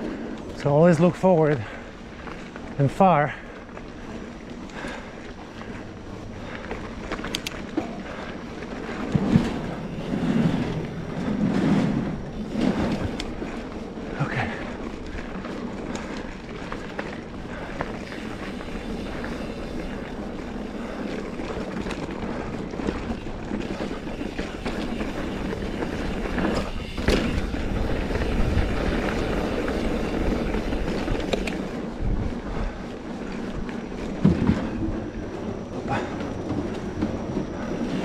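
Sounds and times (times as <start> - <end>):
bike rattles and clicks: 0.0 - 38.0
bike tyres on dirt trail: 0.0 - 38.0
wind rumble on microphone: 4.0 - 38.0.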